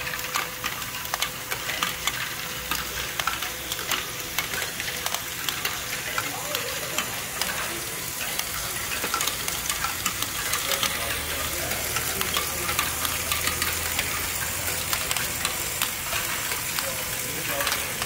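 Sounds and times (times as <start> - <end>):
plastic balls clattering: 0.0 - 18.0.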